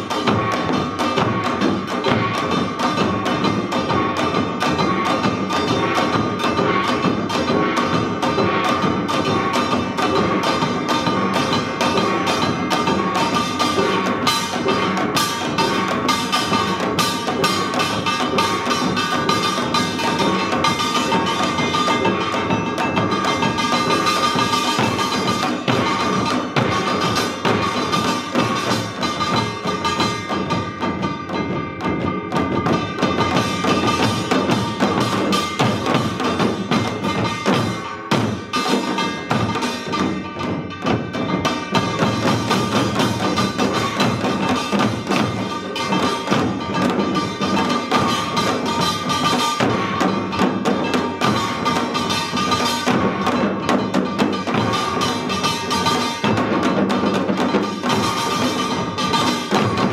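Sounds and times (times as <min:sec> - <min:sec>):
fast drumming: 0:00.0 - 0:59.9.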